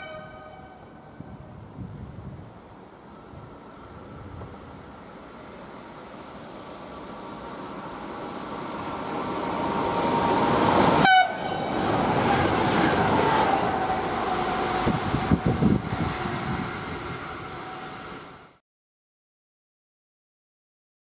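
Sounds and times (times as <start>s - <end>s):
train wheels rushing on rail: 0.0s - 18.6s.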